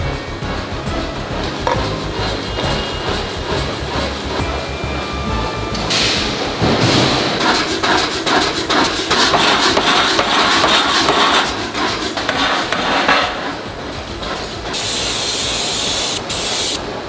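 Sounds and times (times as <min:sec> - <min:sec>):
noisy workshop din: 0:00.0 - 0:17.0
hammer striking metal: 0:01.6 - 0:15.4.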